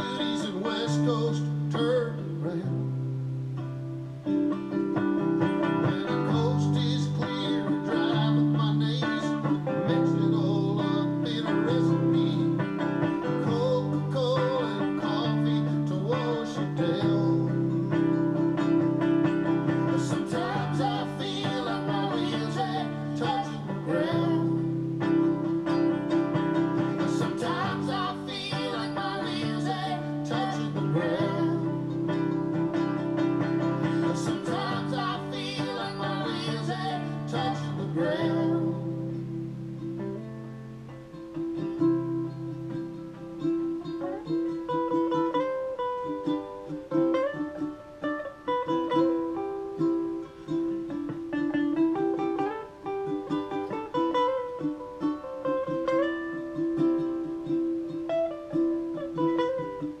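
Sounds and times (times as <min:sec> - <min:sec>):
guitar chords: 0:00.0 - 1:00.0
ukulele playing: 0:00.0 - 1:00.0.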